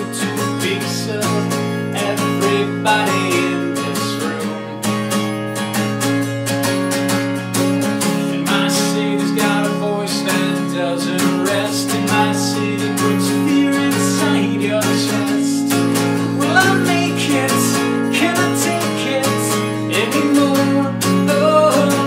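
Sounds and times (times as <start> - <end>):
man singing: 0.0 - 5.0, 8.0 - 22.0
acoustic guitar strumming chords: 0.0 - 22.0.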